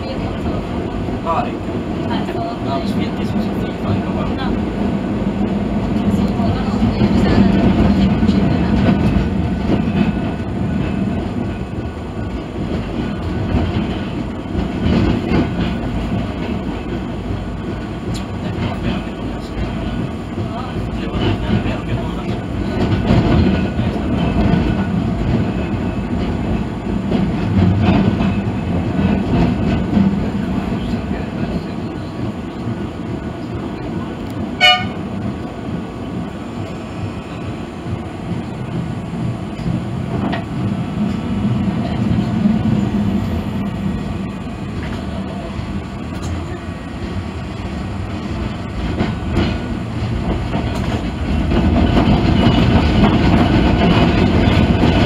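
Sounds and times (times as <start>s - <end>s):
tram motors and wheels rumbling: 0.0s - 55.0s.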